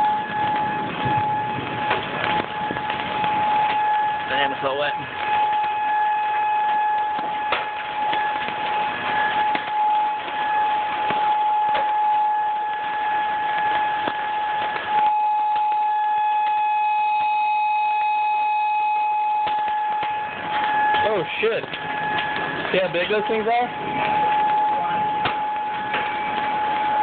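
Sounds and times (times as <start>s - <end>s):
tornado warning siren: 0.0s - 27.0s.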